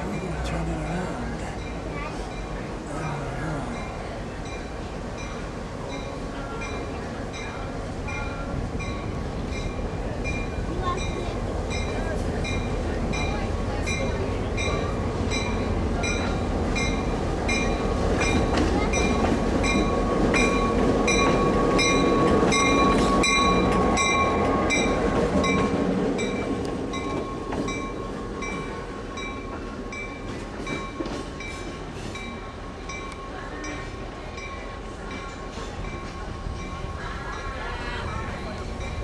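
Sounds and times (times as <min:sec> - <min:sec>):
diesel locomotive engine rumbling: 0:00.0 - 0:39.0
locomotive bell ringing: 0:00.0 - 0:39.0.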